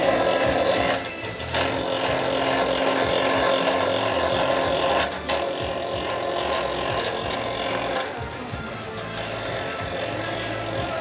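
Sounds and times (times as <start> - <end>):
wire stripping machine running: 0.0 - 11.0.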